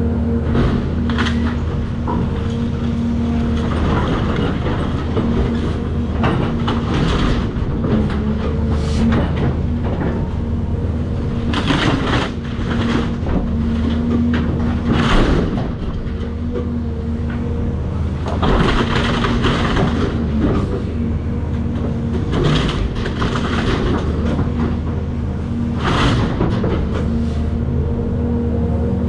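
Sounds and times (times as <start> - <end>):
excavator diesel engine running: 0.0 - 29.0
demolition debris crunching: 0.5 - 16.8, 18.1 - 27.2.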